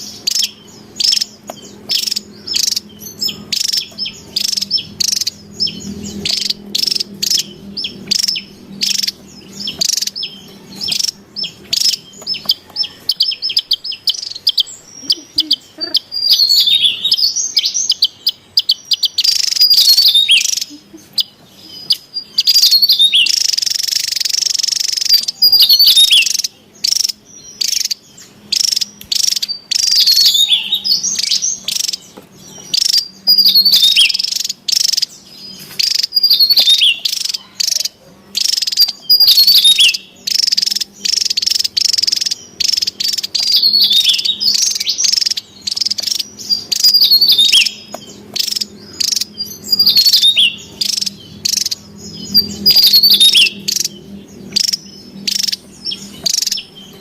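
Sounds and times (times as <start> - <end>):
bird chirping rapidly: 0.0 - 57.0.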